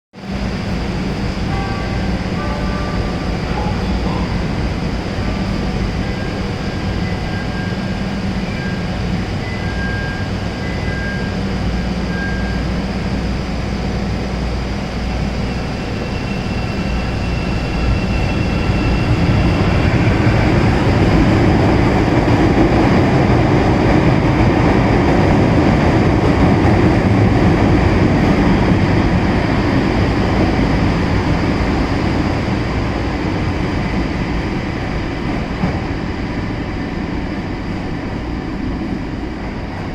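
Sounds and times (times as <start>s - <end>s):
train wheels rumbling on rail: 0.1s - 39.9s.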